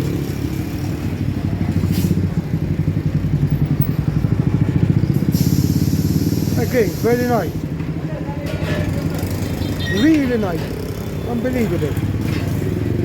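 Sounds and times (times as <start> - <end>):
motorbike engine running: 0.0 - 11.4.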